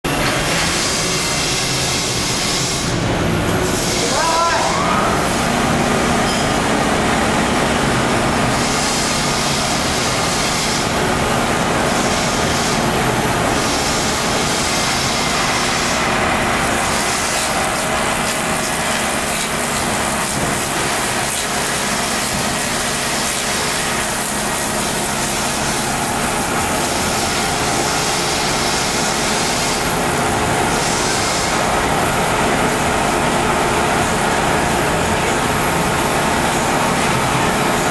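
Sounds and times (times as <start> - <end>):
log-rounding machine whirring: 0.1 - 37.9.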